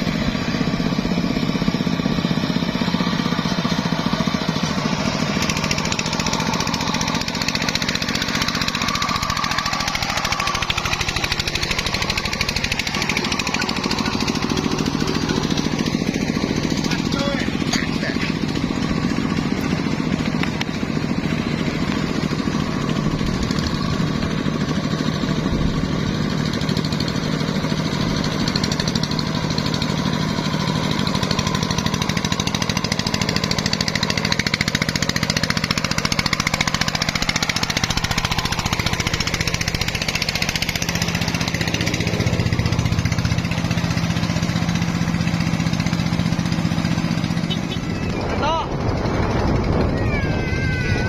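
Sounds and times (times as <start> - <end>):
diesel engine chugging: 0.0 - 51.0.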